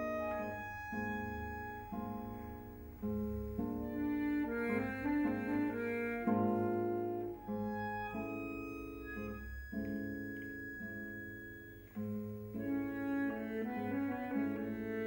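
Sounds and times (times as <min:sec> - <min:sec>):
bandoneon playing slow chords: 0:00.0 - 0:15.0.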